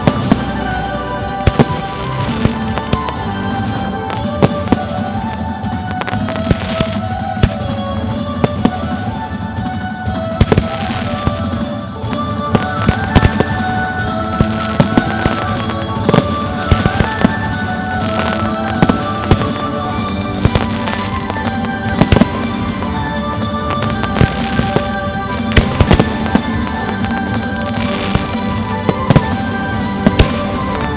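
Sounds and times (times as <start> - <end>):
fireworks bangs: 0.0 - 30.9
music playing: 0.0 - 30.9.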